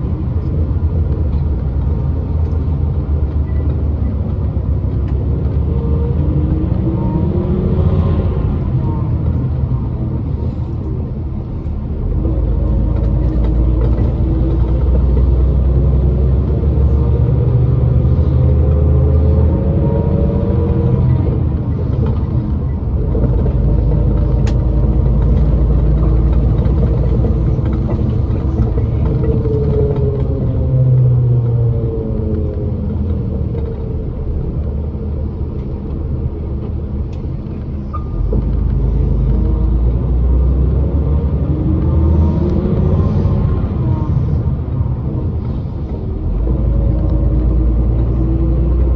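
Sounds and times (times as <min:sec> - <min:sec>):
bus engine: 0:00.0 - 0:48.9
road rumble: 0:00.0 - 0:48.9.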